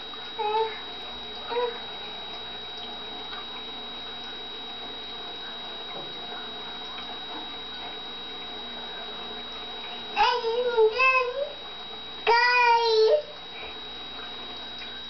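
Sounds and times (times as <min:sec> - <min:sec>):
thin high-pitched whine: 0:00.0 - 0:15.0.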